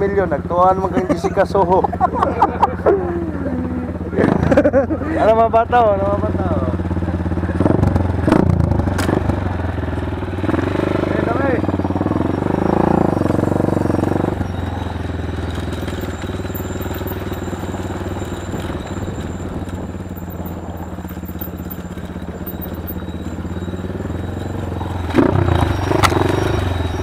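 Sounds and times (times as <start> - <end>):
small motorcycle engine running: 0.0 - 27.0.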